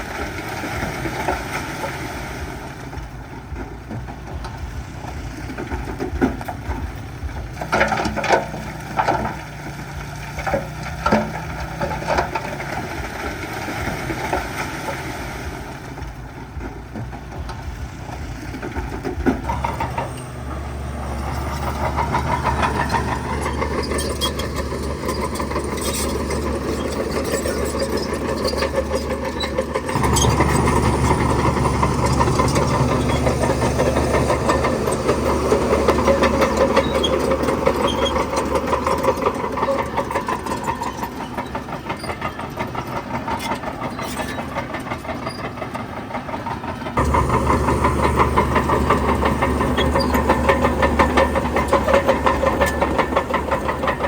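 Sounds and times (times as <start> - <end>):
construction machinery diesel engine: 0.0 - 54.0.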